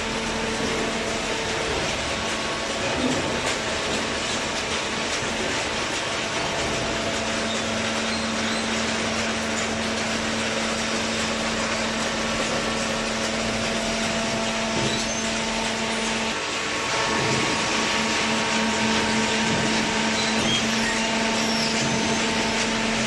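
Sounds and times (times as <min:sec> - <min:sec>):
cardboard baler running: 0:00.0 - 0:23.0.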